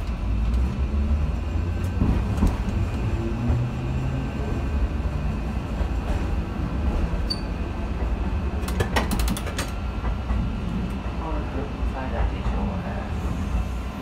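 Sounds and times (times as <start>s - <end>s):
tram rumbling: 0.0s - 14.0s.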